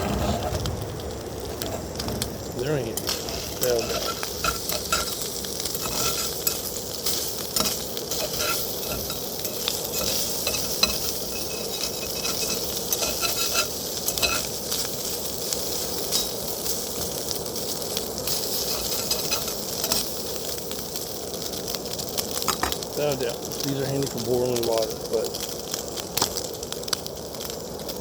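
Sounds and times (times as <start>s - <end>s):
crackles and pops: 0.0s - 28.0s
food sizzling in a pan: 0.0s - 28.0s.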